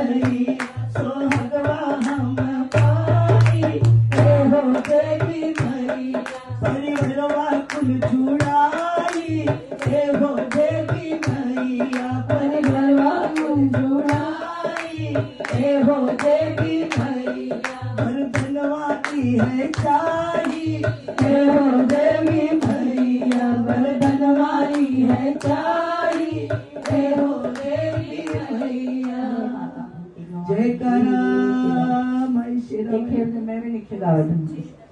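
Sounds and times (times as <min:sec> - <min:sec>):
drum thumping: 0:00.0 - 0:29.1
women singing devotional song: 0:00.0 - 0:34.7
hand-clapping: 0:00.2 - 0:29.2.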